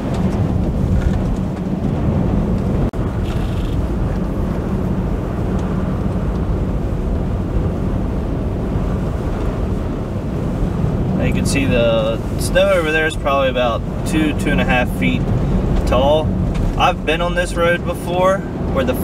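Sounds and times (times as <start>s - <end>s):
faint engine hum: 0.0s - 19.0s
tyre and road noise: 0.0s - 19.0s.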